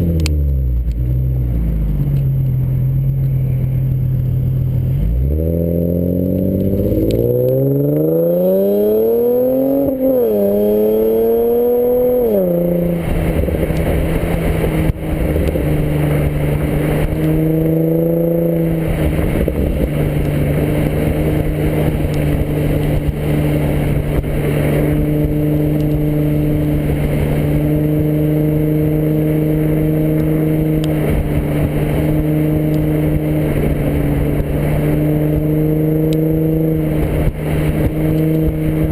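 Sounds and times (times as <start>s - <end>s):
car engine accelerating: 0.0s - 38.9s
gear change: 0.0s - 38.9s.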